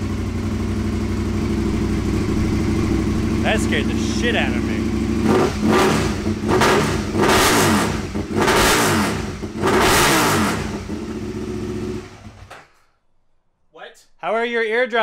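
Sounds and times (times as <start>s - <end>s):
motorcycle engine revving and idling: 0.0s - 12.5s.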